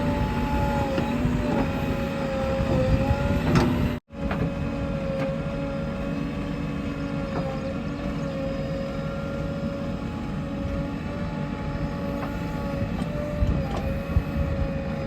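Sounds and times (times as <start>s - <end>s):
backhoe diesel engine running: 0.0s - 15.0s
engine whine: 0.0s - 15.0s.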